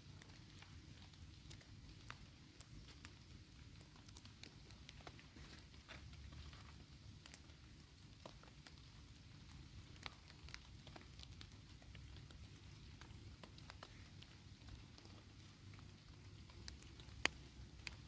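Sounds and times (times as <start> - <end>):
raindrops pattering: 0.0 - 18.0.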